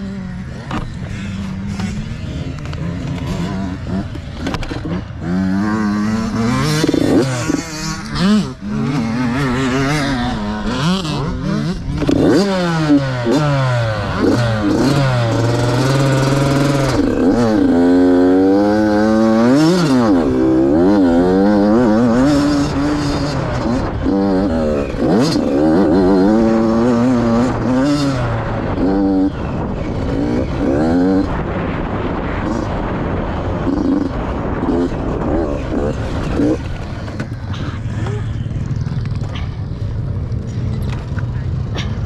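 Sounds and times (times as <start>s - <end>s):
dirt bike engine revving: 0.0s - 39.4s.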